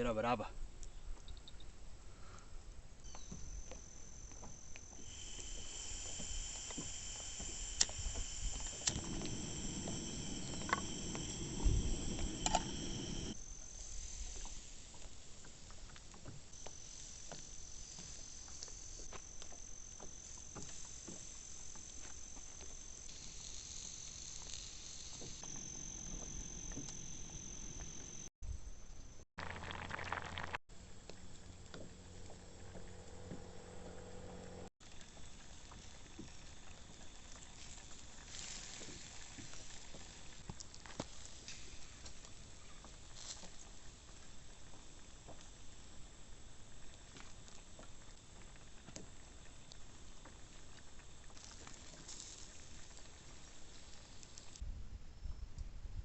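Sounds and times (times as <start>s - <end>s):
insects chirring: 3.0s - 54.6s.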